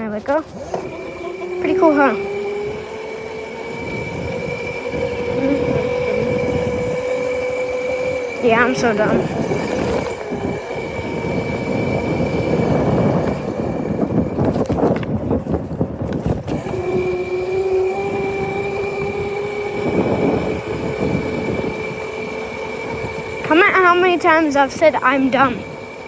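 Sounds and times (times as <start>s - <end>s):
motorcycle motor whine: 0.0s - 26.0s
road and wind rumble: 0.0s - 26.0s.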